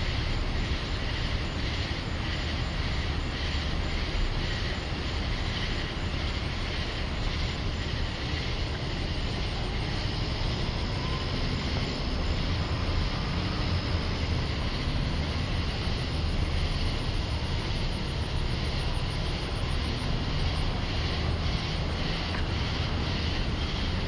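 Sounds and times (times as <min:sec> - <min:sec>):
cicadas chorus: 0:00.0 - 0:24.0.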